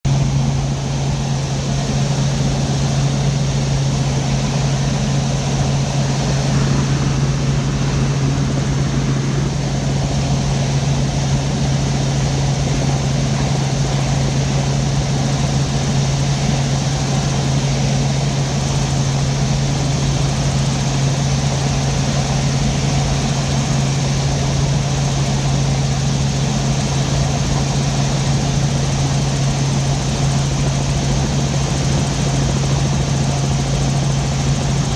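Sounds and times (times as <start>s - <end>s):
helicopter engine and rotors: 0.0s - 34.9s.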